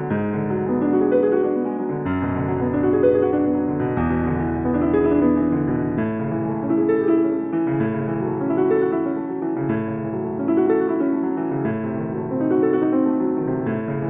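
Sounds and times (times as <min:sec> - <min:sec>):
soft piano chords: 0:00.0 - 0:14.0.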